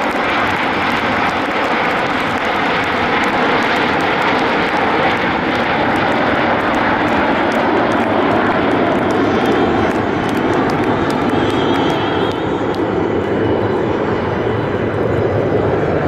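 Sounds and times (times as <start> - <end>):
jet engines flying past: 0.0 - 16.0.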